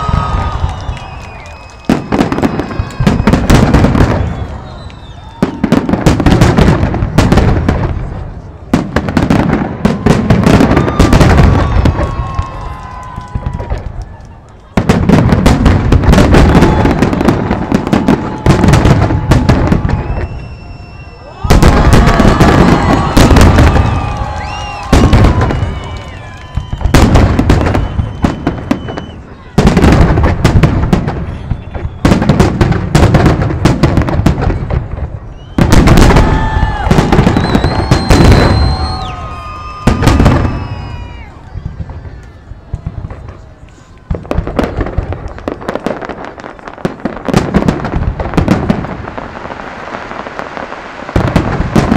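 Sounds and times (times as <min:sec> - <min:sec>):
fireworks bursts and bangs: 0:00.0 - 0:51.9
fireworks crackling: 0:00.0 - 0:51.9.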